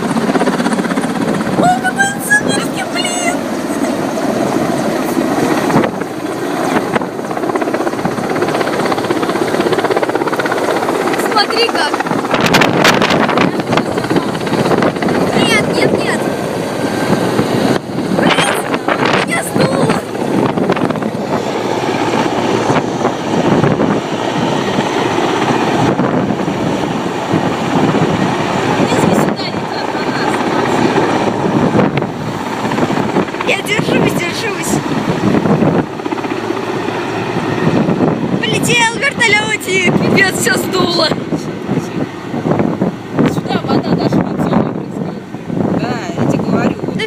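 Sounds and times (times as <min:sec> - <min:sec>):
helicopter rotor passing overhead: 0:00.0 - 0:47.0
wind buffeting microphone: 0:00.0 - 0:47.0.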